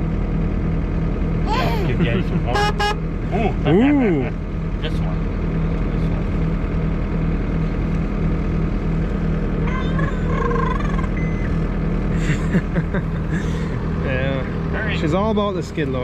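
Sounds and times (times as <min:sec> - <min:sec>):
skid loader engine running: 0:00.0 - 0:16.0.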